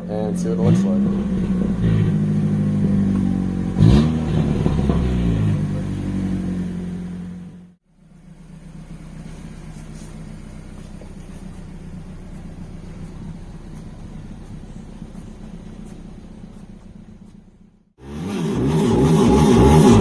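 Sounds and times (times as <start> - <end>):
car engine running: 0.0 - 20.0
quiet engine hum: 0.0 - 20.0.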